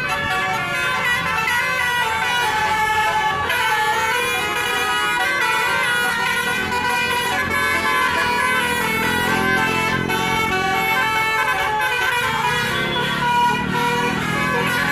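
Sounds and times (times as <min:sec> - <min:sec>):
tuned bus air horns playing tune: 0:00.0 - 0:14.9.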